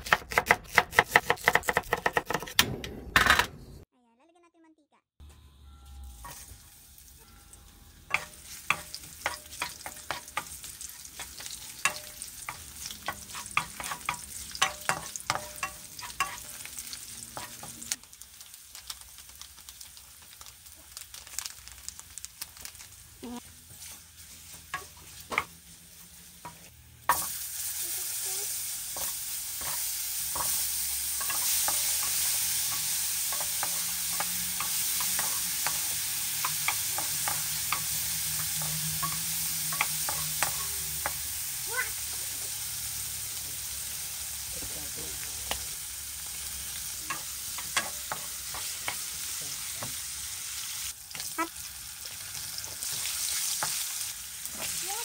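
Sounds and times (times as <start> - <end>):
loud steady sizzle: 5.8 - 55.0.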